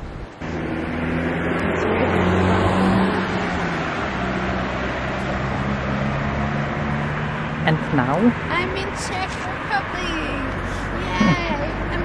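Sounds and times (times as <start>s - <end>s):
road noise: 0.0s - 12.0s
car engine droning: 0.4s - 12.0s.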